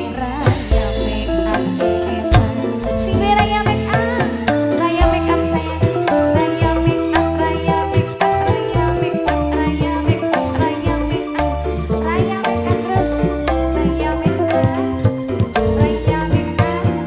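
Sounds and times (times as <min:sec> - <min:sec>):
band instrumental music: 0:00.0 - 0:17.0.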